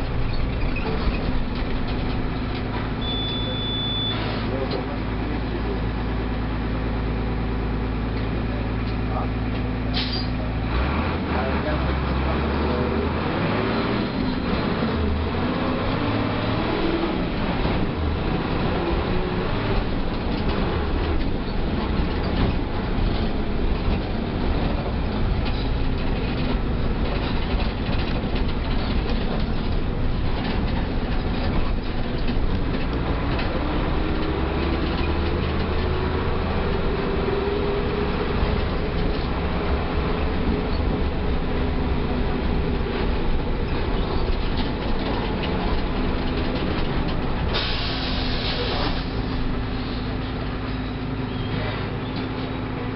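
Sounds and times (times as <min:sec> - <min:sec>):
bus body rattling: 0:00.0 - 0:52.9
bus engine running: 0:00.0 - 0:52.9.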